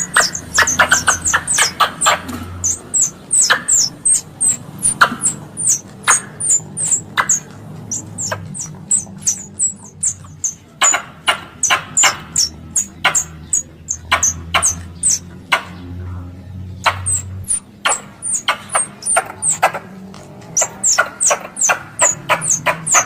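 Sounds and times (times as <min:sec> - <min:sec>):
high sharp squirrel chirps: 0:00.0 - 0:15.2, 0:16.8 - 0:19.8, 0:20.5 - 0:23.0.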